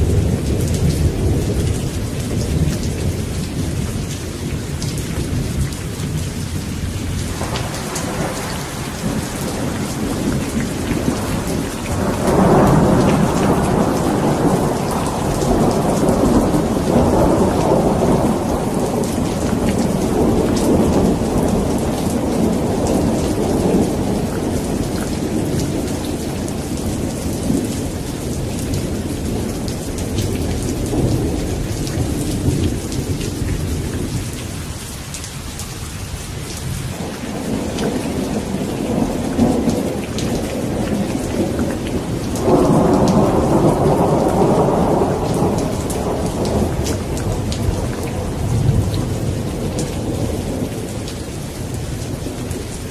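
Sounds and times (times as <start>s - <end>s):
rolling thunder: 0.0s - 34.6s, 36.5s - 52.9s
rain falling: 0.0s - 52.9s.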